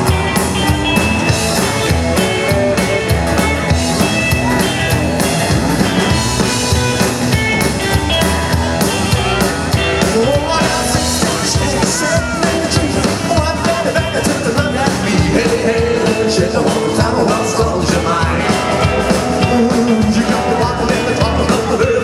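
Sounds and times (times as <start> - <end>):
drum kit beat: 0.0 - 22.0
rock band playing: 0.0 - 22.0.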